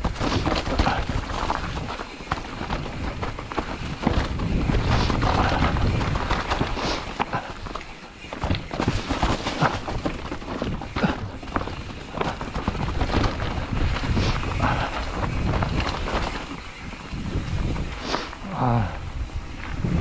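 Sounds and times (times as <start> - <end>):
bike rattling over stones: 0.0 - 20.0
tyres crackling through dry leaves: 0.0 - 20.0.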